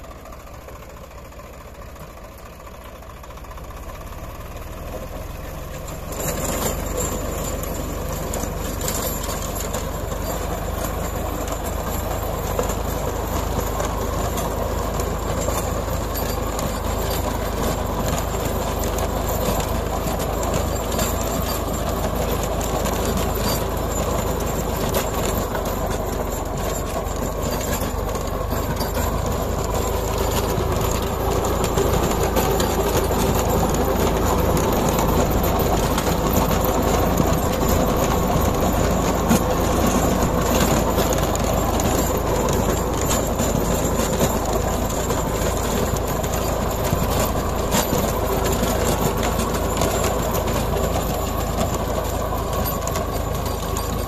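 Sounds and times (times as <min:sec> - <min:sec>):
tractor with rotary tiller churning soil: 0:00.0 - 0:54.0.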